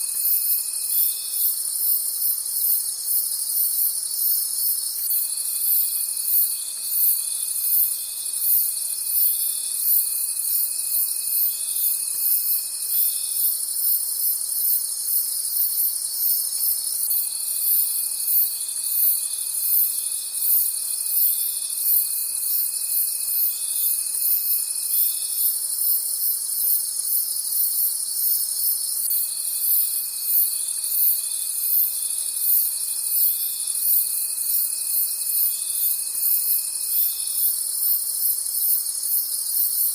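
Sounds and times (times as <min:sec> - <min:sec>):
crickets chirping: 0:00.0 - 0:39.9
low steady insect trill: 0:00.0 - 0:39.9.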